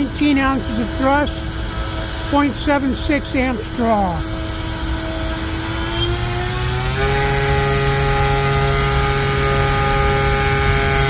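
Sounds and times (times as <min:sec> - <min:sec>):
electric motor whine: 0:00.0 - 0:11.0
propeller wash rushing: 0:00.0 - 0:11.0.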